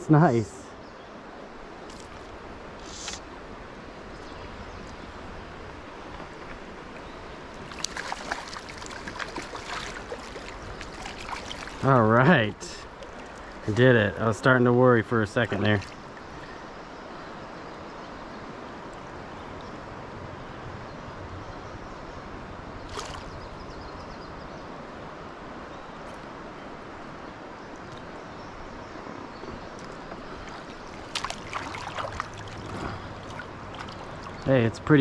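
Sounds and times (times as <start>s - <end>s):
stream water flowing: 0.0s - 35.0s.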